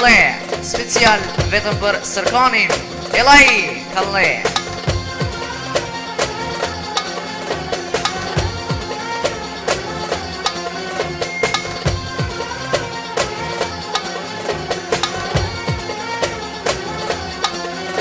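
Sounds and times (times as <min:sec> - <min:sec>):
folk melody: 0:00.0 - 0:18.0
steady drum beat: 0:00.0 - 0:18.0.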